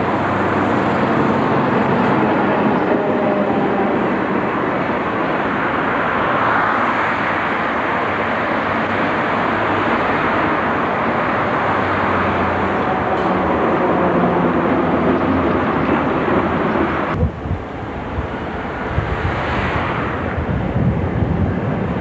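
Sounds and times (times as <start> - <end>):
road traffic rushing: 0.0 - 22.0
trams running past: 0.0 - 22.0.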